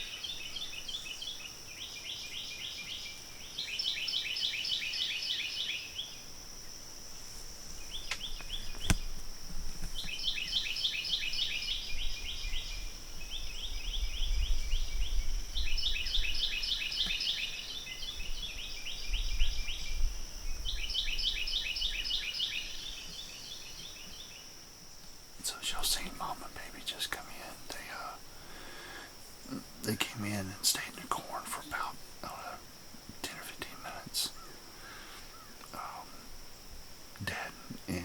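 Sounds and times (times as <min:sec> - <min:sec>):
songbird chirping: 0:00.0 - 0:38.0.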